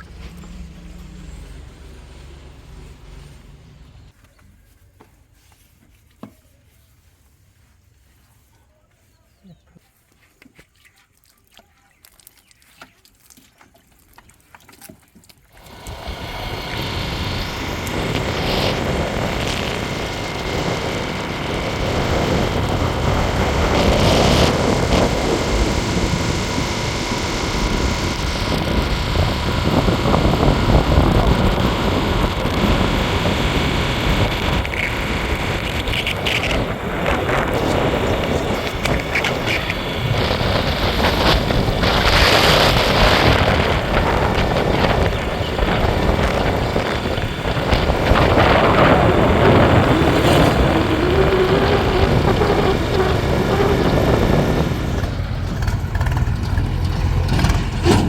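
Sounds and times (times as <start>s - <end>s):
pitched whine: 0.0s - 4.2s, 15.6s - 58.0s
diesel engines running: 0.0s - 5.4s, 15.5s - 58.0s.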